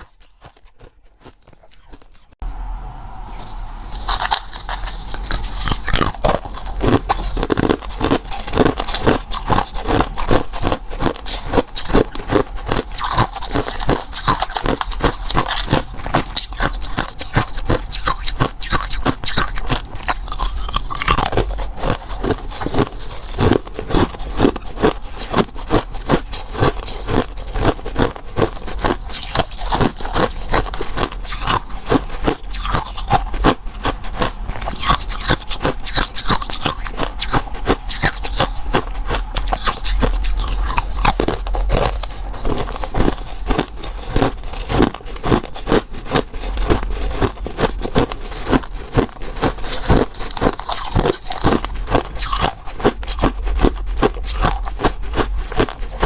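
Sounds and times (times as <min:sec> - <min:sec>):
crunchy bites and chewing: 0:00.0 - 0:02.4, 0:03.4 - 0:56.0.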